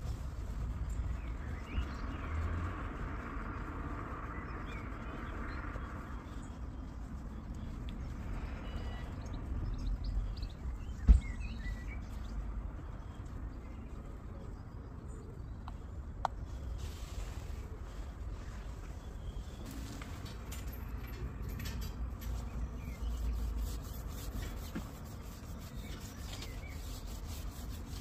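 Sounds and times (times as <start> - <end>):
low steady rumble: 0.0 - 28.0
small birds chirping: 0.4 - 28.0.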